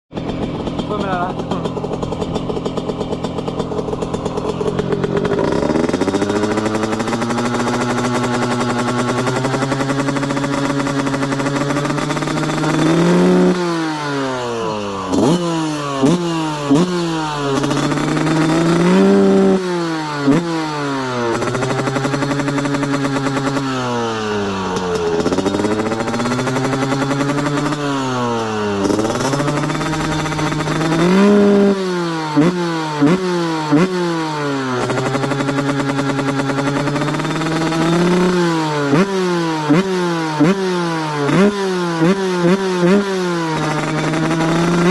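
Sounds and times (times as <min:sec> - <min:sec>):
two-stroke motorcycle revving: 0:00.1 - 0:44.9.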